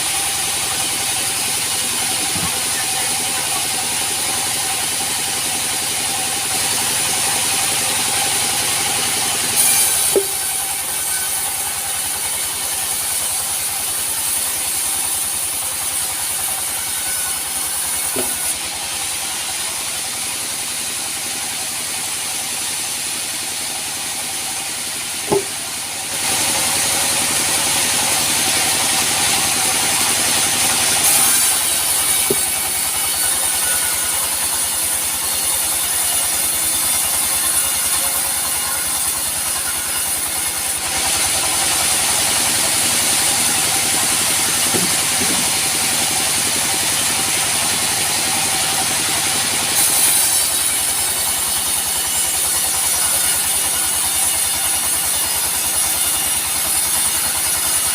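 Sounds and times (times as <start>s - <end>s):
sawmill machinery whining: 0.0s - 57.9s.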